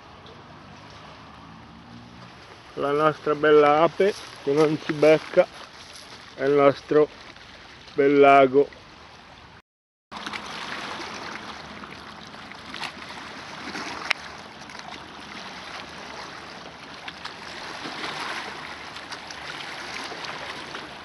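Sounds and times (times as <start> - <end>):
light splashes and clicks: 0.0 - 2.8, 4.0 - 8.0, 10.2 - 21.0
waves lapping on stony shore: 0.0 - 21.0.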